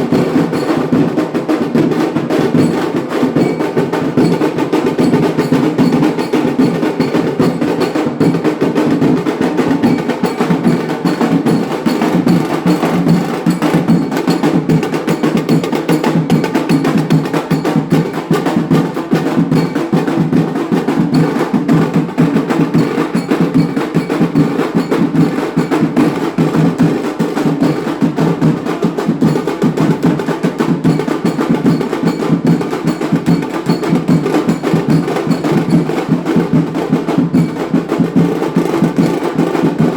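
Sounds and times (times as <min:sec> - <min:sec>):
wedding band drumming: 0:00.0 - 0:39.9.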